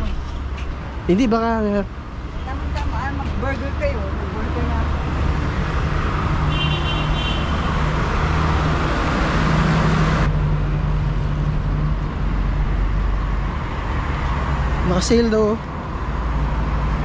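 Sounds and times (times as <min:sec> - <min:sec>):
passing cars road noise: 0:00.0 - 0:17.0.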